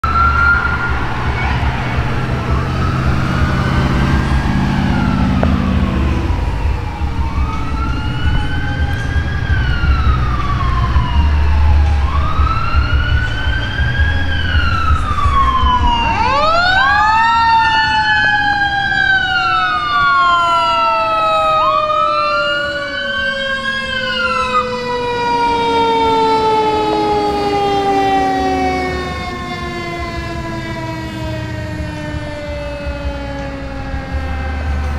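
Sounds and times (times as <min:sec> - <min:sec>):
second siren rising sharply: 0:00.0 - 0:34.9
sirens wailing: 0:00.0 - 0:34.9
truck engine rumble: 0:00.0 - 0:34.9.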